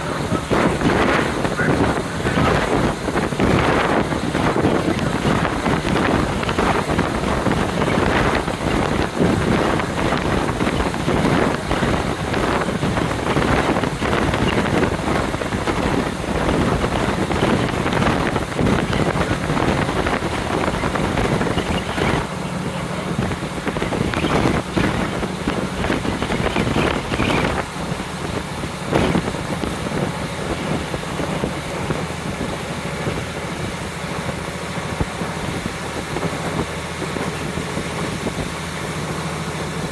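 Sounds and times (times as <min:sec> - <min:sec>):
low engine hum: 0:00.0 - 0:39.9
train running noise: 0:00.0 - 0:39.9
wind rushing through window: 0:00.0 - 0:39.9.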